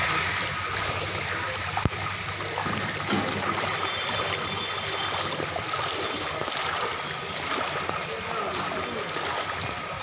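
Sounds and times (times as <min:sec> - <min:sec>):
floodwater running: 0:00.0 - 0:10.0.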